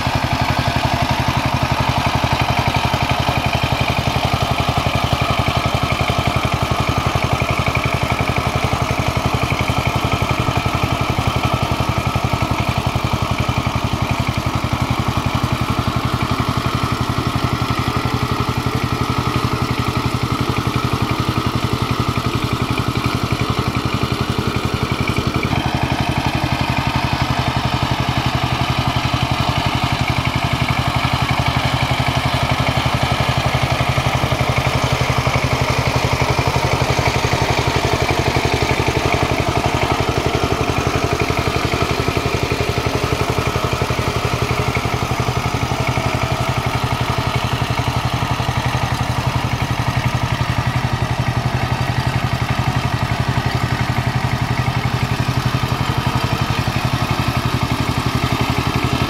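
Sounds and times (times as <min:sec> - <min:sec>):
diesel engine chugging: 0:00.0 - 0:59.0
tines churning wet mud: 0:00.0 - 0:59.0.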